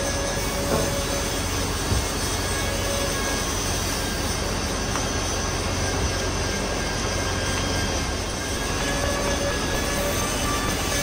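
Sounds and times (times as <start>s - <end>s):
loud rushing metal fabrication noise: 0.0s - 11.0s
low hum: 0.0s - 11.0s.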